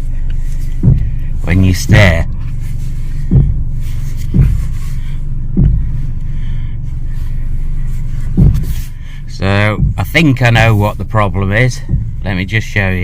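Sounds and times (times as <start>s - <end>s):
car engine idling: 0.0s - 13.0s
suspension banging: 0.0s - 13.0s.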